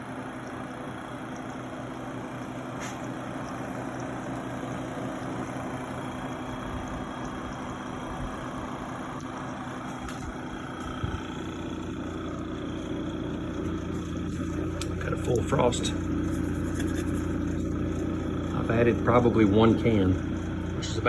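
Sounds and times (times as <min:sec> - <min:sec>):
refrigerator compressor humming: 0:00.0 - 0:21.0.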